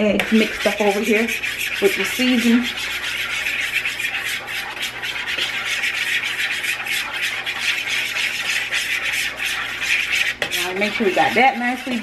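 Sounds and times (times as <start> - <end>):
fork scraping against plate: 0.2 - 12.0.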